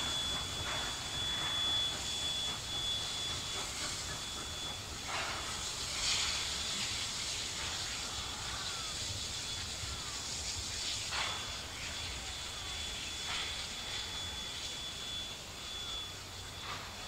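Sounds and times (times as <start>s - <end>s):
locomotive exhaust chuffs: 0.0s - 17.0s
steam locomotive hissing: 0.0s - 17.0s.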